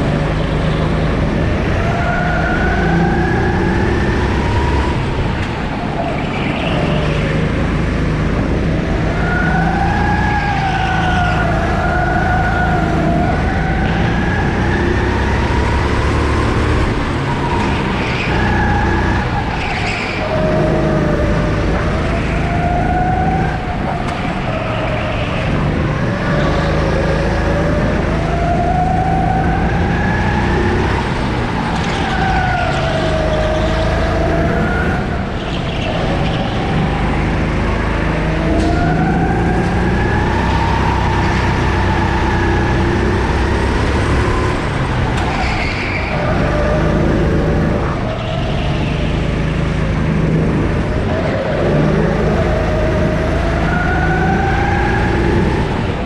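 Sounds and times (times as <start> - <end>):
kart engine accelerating: 0.0 - 56.0.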